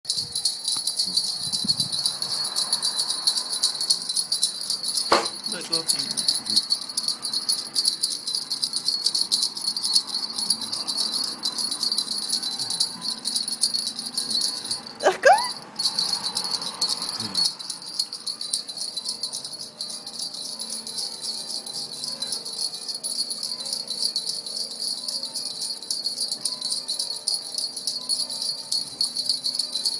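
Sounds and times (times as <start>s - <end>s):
handbells jangling: 0.1s - 29.9s.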